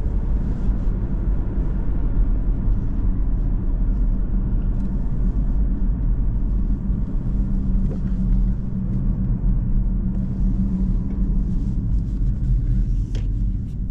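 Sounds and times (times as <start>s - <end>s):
diesel engine drone: 0.0s - 13.9s
road and tyre rumble: 0.0s - 13.9s.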